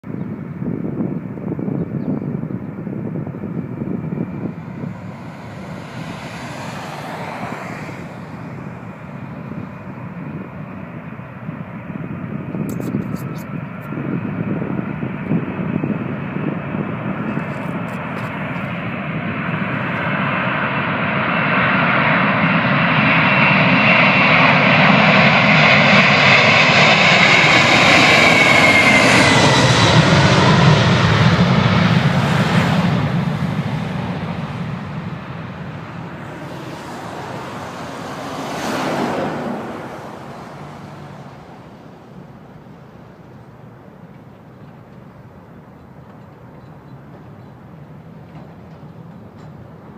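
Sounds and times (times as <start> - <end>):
jet airliner engines roaring: 0.1 - 49.9.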